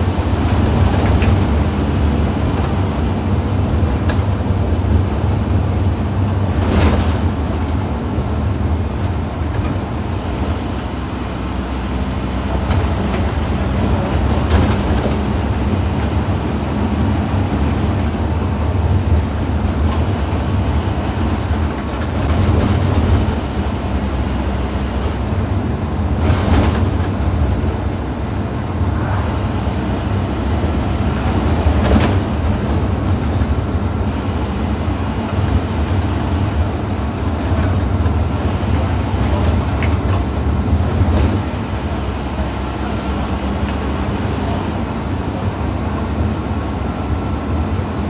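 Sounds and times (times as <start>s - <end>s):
bus engine droning: 0.0s - 48.0s
road noise: 0.0s - 48.0s.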